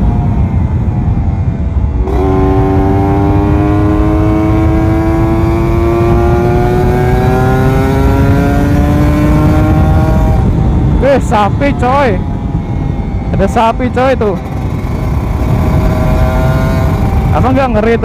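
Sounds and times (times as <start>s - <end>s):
motorcycle engine revving high: 0.0s - 18.0s
wind rumble on microphone: 0.0s - 18.0s.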